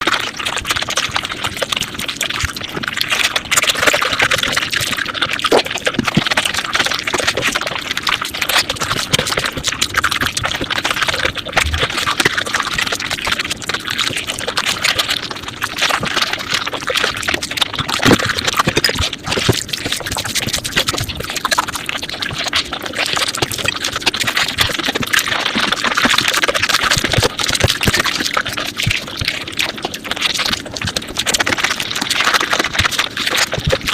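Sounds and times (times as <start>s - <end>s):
rapid chewing and mouth clicks: 0.0s - 33.9s.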